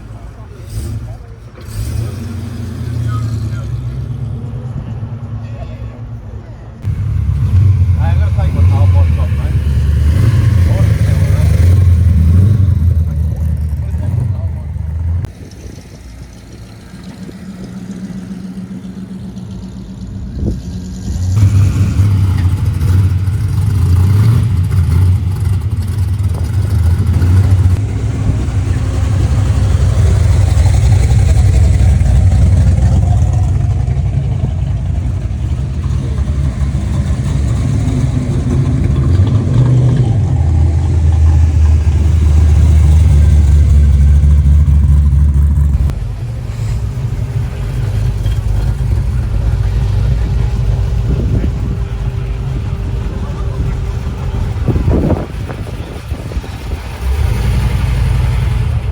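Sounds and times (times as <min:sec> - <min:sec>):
car engine rumbling: 0:00.0 - 0:58.9.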